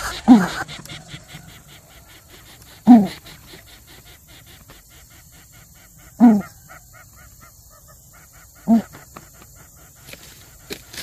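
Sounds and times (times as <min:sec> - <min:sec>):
rapid faint chirps: 0:00.0 - 0:11.0.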